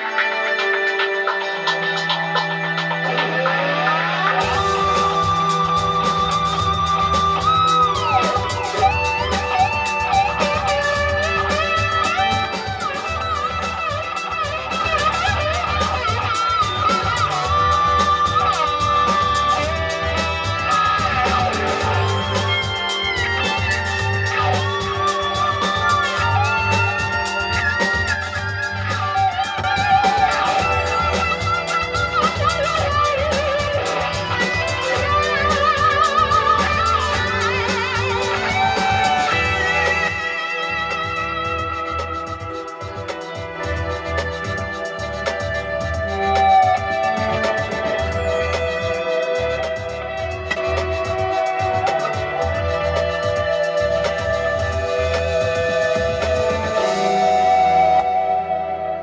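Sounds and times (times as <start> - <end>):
drums and bass: 0.0 - 58.8
electric guitar with bent notes: 0.0 - 59.0
steady beat: 0.0 - 59.0.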